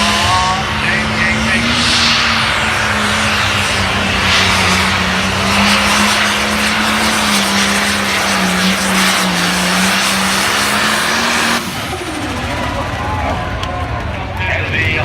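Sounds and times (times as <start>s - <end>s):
pulling tractor diesel engine drone: 0.0s - 15.0s.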